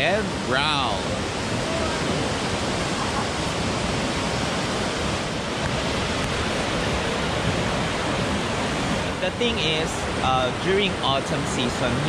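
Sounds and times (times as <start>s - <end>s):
river rapids roaring: 0.0s - 12.0s.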